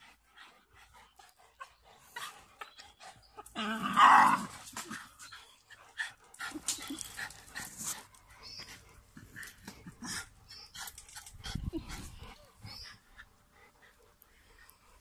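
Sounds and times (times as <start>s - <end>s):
dogs panting: 0.0s - 3.6s, 4.6s - 15.0s.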